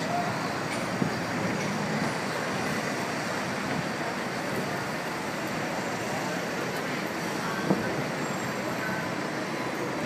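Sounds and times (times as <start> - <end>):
city traffic: 0.0 - 10.0
tram rumbling on street track: 0.0 - 10.0.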